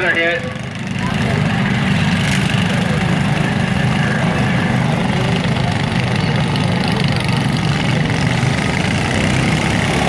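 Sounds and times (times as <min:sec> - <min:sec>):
riding lawn mower engines drone: 0:00.0 - 0:10.0.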